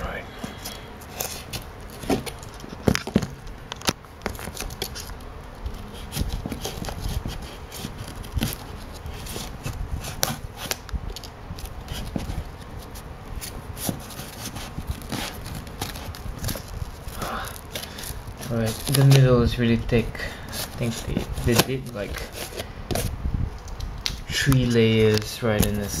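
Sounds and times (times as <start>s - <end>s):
knife scraping packing tape: 0.5s - 2.7s, 4.3s - 23.1s.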